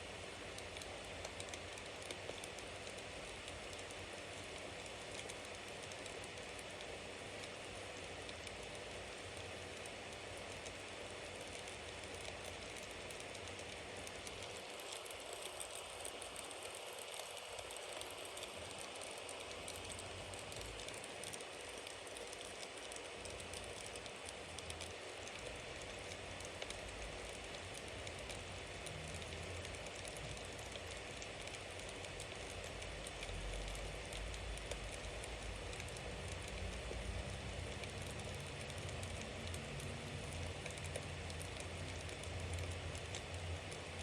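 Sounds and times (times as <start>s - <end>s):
bonfire hissing: 0.0s - 44.0s
fire crackling and popping: 0.0s - 44.0s.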